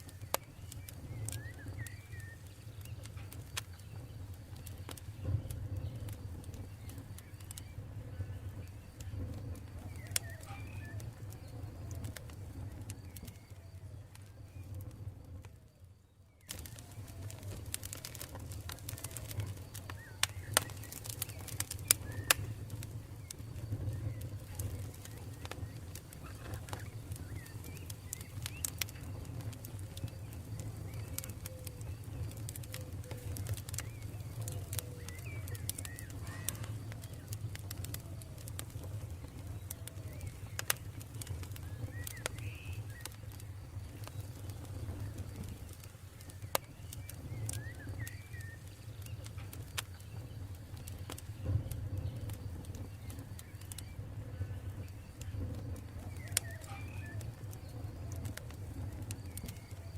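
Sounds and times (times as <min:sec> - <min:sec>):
faint bird calls: 0:00.0 - 0:14.8, 0:16.4 - 0:59.9
campfire crackling: 0:00.0 - 0:59.9
fire popping and snapping: 0:00.0 - 0:59.9
low rumble of burning: 0:00.0 - 0:59.9.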